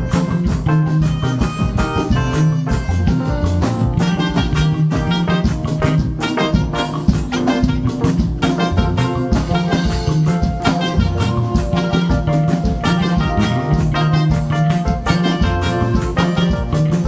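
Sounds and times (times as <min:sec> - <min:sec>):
drum kit beat: 0:00.0 - 0:17.0
upbeat instrumental band music: 0:00.0 - 0:17.0.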